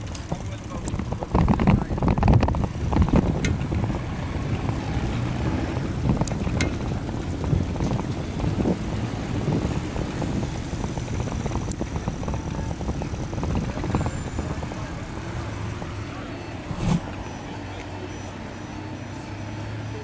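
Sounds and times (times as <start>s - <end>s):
wind buffeting microphone: 0.0s - 17.0s
city traffic: 0.0s - 20.0s.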